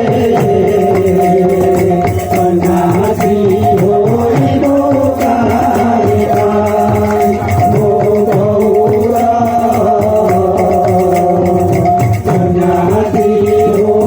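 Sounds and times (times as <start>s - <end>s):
hand drum rhythm: 0.0s - 14.0s
jingling percussion: 0.0s - 14.0s.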